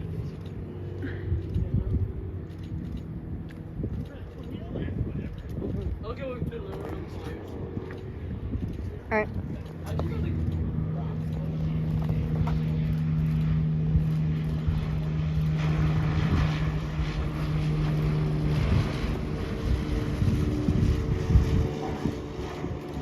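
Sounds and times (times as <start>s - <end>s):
engine humming: 0.0s - 4.8s, 5.4s - 23.0s
wind buffeting microphone: 0.0s - 23.0s.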